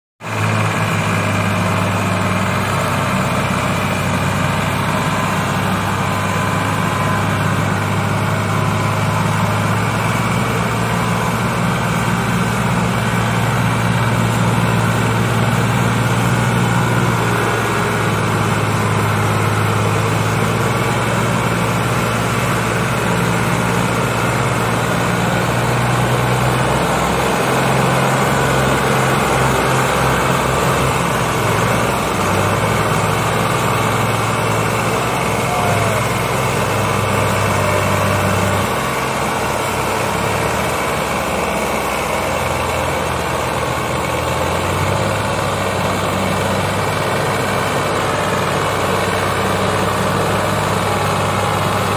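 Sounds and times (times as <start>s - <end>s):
tractor diesel engines under load: 0.2s - 51.9s.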